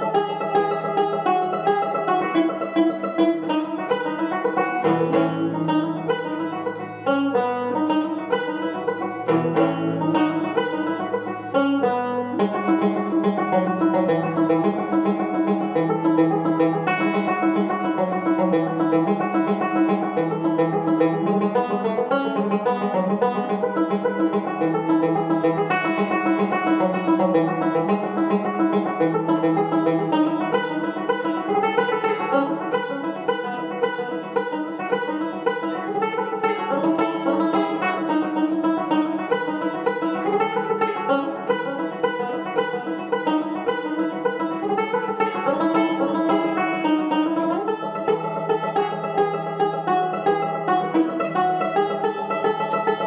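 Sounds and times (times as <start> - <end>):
banjo playing fast tune: 0.0 - 53.0.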